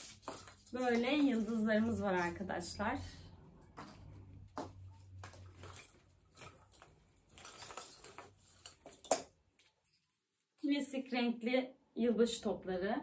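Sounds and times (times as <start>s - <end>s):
ornaments rustling: 0.0s - 10.6s.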